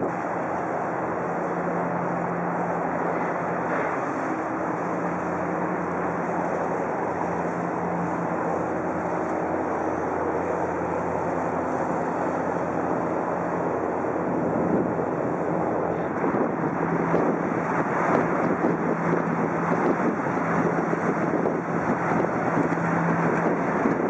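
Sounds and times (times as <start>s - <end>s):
boat engine humming: 0.0s - 24.0s
rush of water: 0.0s - 24.0s.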